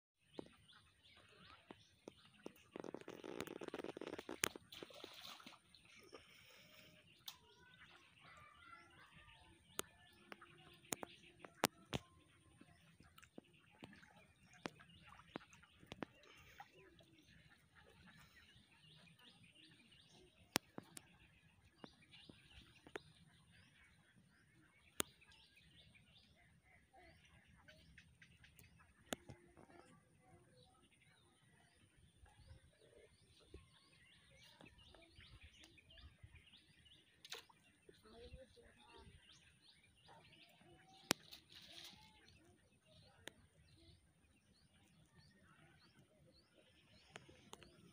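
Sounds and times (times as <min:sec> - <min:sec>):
faint birds chirping: 0:00.2 - 0:47.9.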